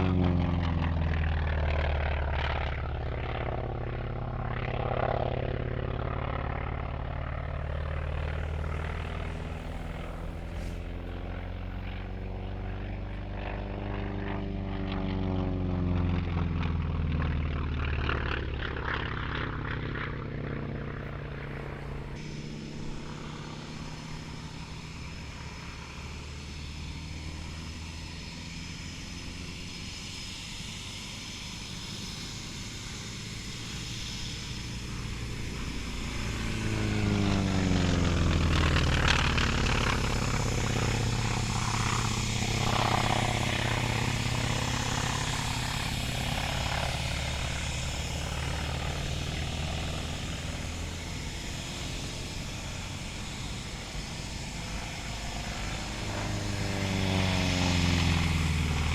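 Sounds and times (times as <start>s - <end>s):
jet fighter flying past: 0.0s - 58.9s.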